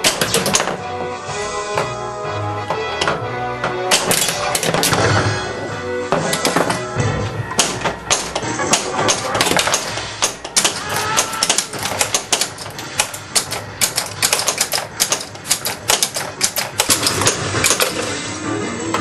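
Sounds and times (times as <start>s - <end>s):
pinball machine clacking: 0.0s - 1.1s, 2.6s - 18.3s
faint game music: 0.0s - 19.0s.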